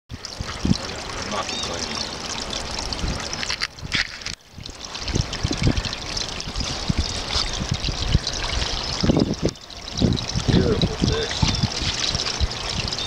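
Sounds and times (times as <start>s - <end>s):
creek water running: 0.1s - 13.0s.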